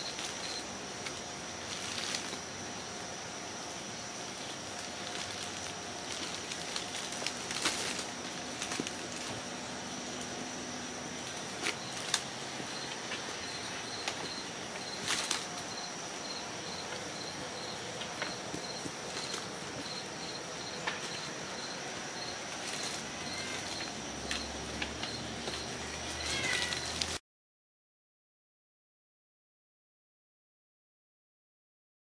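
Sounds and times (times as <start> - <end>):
steady hiss: 0.0 - 27.2.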